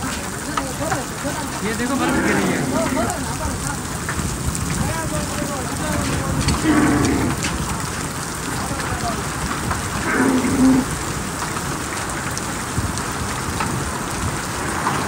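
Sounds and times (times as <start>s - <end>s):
heavy rain and hail: 0.0s - 15.0s.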